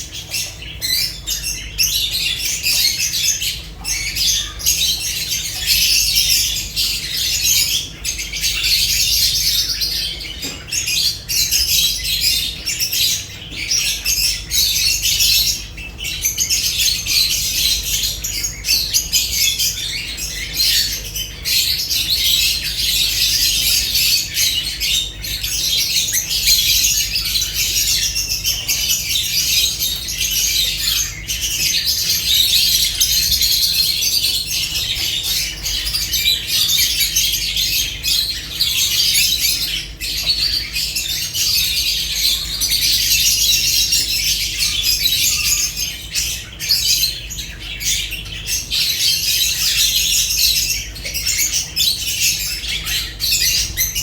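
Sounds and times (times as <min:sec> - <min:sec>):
lovebirds chattering: 0:00.0 - 0:54.0.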